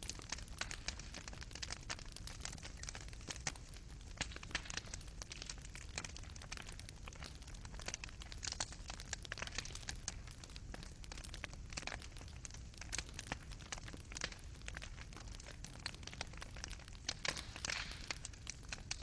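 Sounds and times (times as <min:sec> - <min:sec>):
coals crackling and popping: 0:00.0 - 0:19.0
low rumble of fire: 0:00.0 - 0:19.0.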